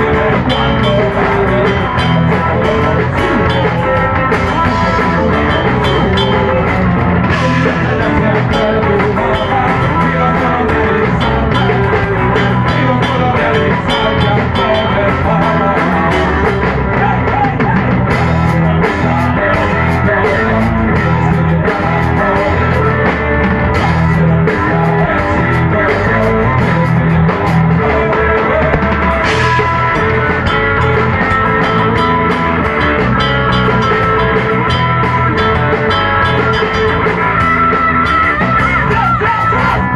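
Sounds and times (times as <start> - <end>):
drums and cymbals: 0.0 - 39.9
electric guitars: 0.0 - 39.9.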